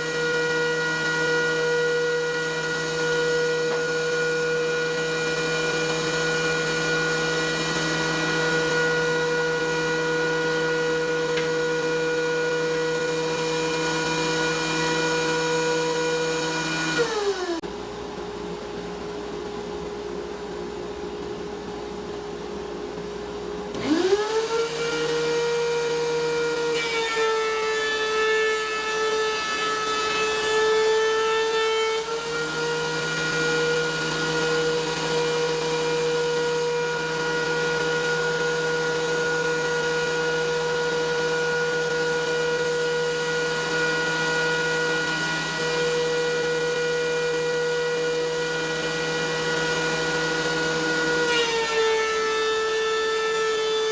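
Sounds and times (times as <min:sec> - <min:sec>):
planer motor whining: 0:00.0 - 0:17.6, 0:23.7 - 0:53.9.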